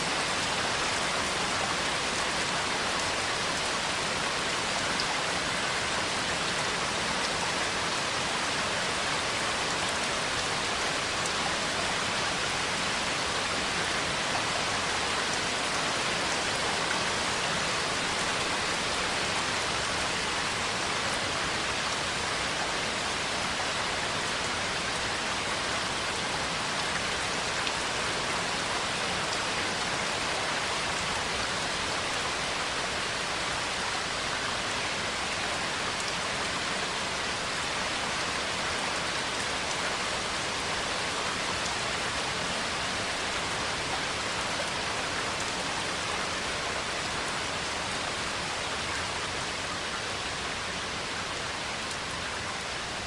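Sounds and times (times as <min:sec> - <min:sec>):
steady rainfall hiss: 0:00.0 - 0:53.0.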